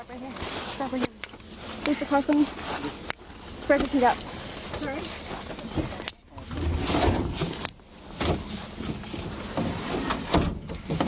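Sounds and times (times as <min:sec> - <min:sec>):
clothing rubbing on microphone: 0:00.0 - 0:10.4.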